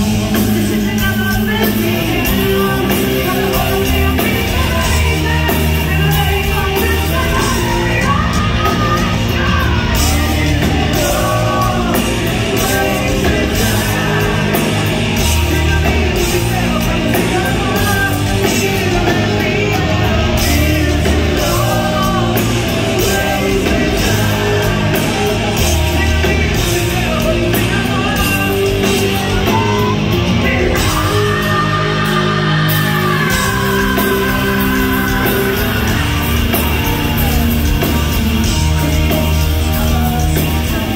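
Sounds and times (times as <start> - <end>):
live hard rock band: 0.0 - 40.9
man singing and yelling: 0.0 - 40.9.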